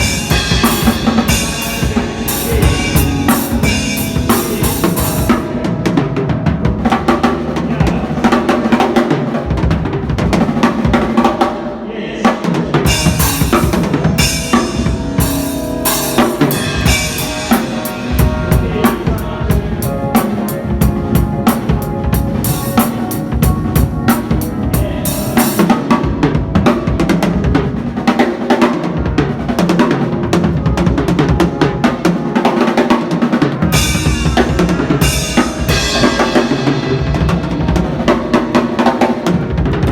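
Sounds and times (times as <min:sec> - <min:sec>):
fast drum solo: 0:00.0 - 0:39.9.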